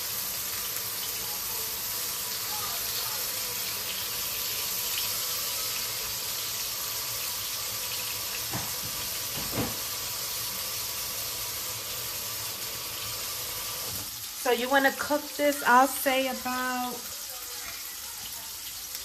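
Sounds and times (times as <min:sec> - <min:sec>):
chicken sizzling in oil: 0:00.0 - 0:19.0.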